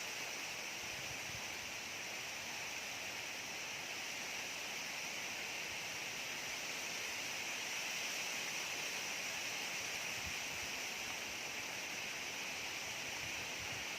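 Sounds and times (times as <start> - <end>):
steady rain: 0.0 - 13.9.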